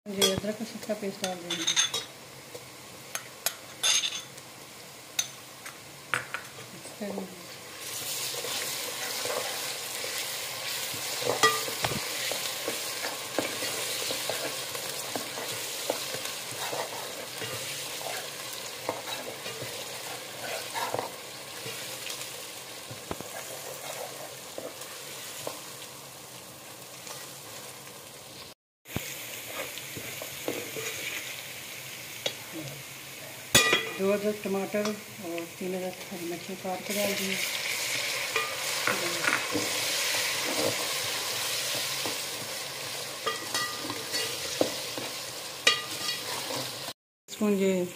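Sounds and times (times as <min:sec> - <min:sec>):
onions sizzling in a pot: 0:00.1 - 0:47.9.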